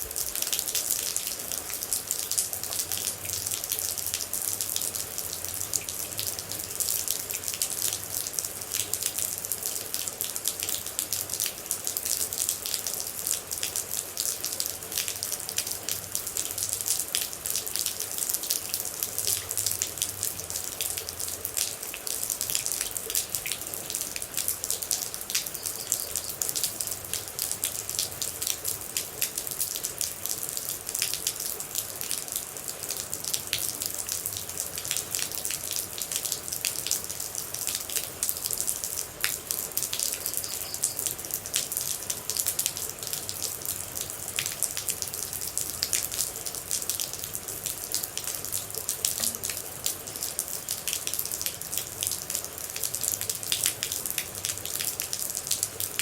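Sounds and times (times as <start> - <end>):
rain drops pattering: 0.0 - 56.0.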